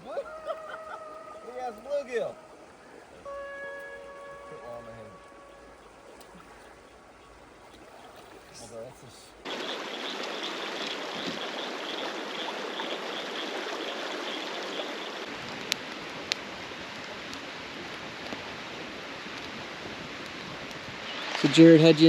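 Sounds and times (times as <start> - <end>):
flowing river water: 0.0 - 22.0.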